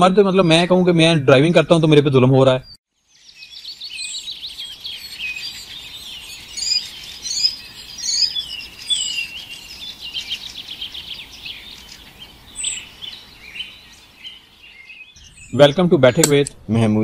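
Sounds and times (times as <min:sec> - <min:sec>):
small birds chirping and trilling: 0:00.2 - 0:00.8, 0:01.6 - 0:17.0.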